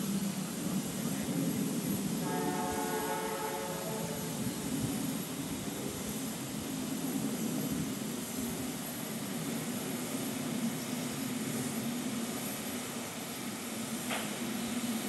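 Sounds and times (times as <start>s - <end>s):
steam locomotive rumble and hiss: 0.0s - 15.0s.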